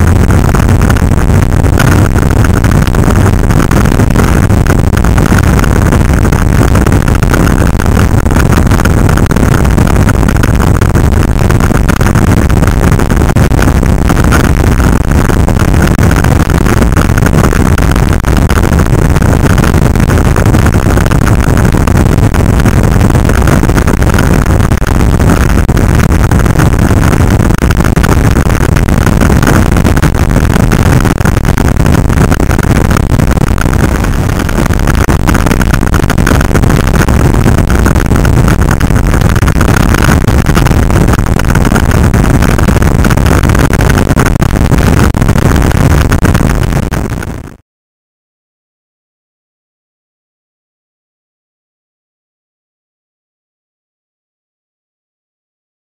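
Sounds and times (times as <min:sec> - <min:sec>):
wind rushing over microphone: 0:00.0 - 0:47.6.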